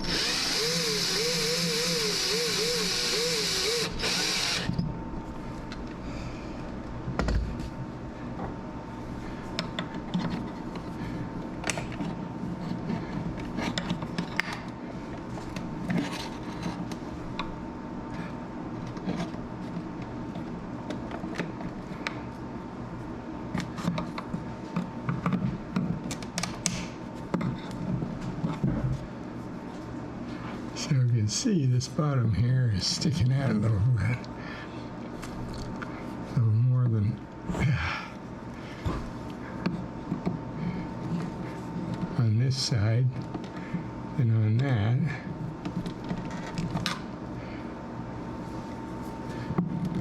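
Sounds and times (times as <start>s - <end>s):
steady background hum: 0.0s - 50.0s.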